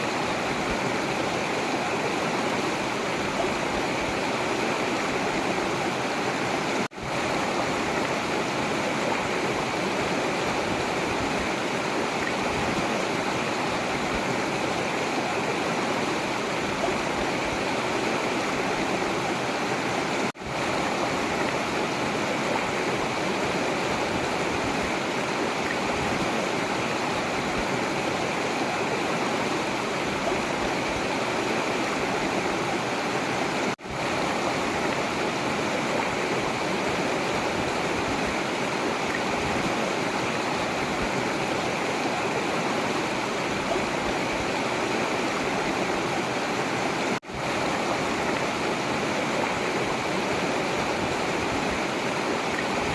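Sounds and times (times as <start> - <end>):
river flowing: 0.0 - 52.9.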